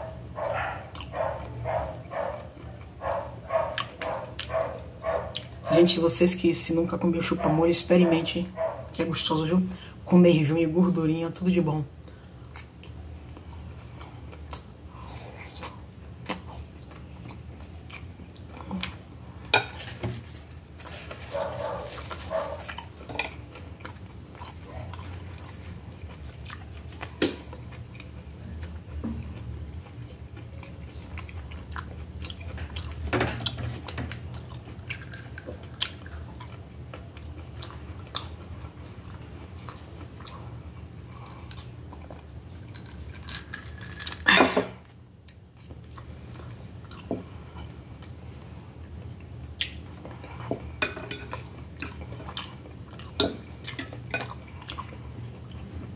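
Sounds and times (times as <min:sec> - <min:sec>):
person chewing food: 0:00.0 - 0:05.8, 0:12.0 - 0:43.2, 0:45.2 - 0:55.8.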